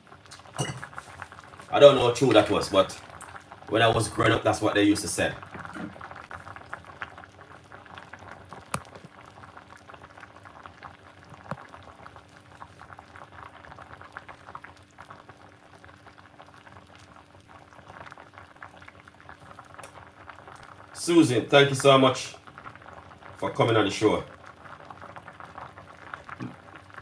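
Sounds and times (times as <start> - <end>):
pot of broth boiling: 0.0 - 27.0.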